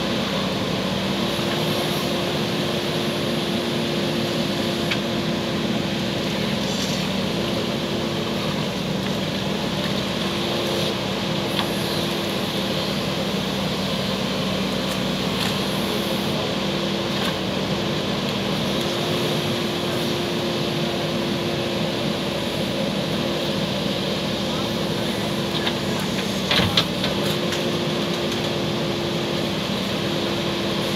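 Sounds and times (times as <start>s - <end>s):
diesel engine running steadily: 0.0s - 30.9s.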